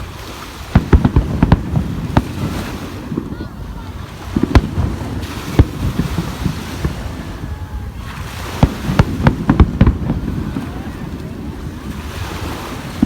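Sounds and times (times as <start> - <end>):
fireworks bangs: 0.0 - 13.0
wind on microphone: 0.0 - 13.0.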